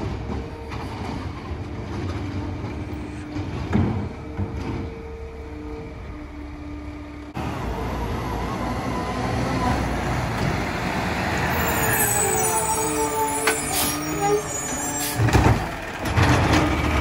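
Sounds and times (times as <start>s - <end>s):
garbage truck driving: 0.0s - 17.0s.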